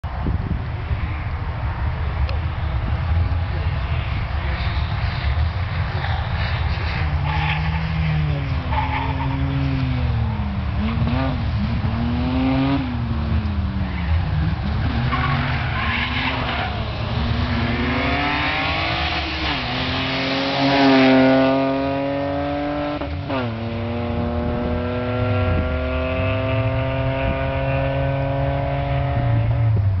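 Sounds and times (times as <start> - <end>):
rally car engine revving: 4.5 - 29.8.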